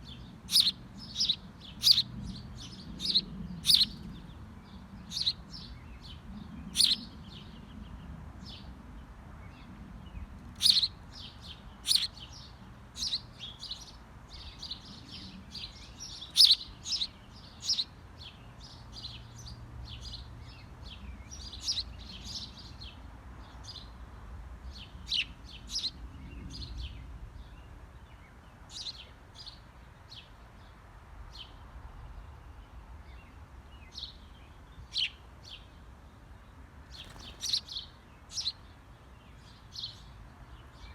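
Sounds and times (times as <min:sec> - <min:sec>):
small birds chirping: 0:00.0 - 0:24.0, 0:24.6 - 0:40.9.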